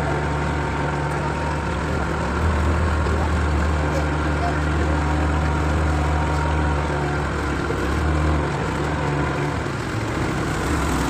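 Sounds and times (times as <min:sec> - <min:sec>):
outboard motor drone: 0:00.0 - 0:11.0.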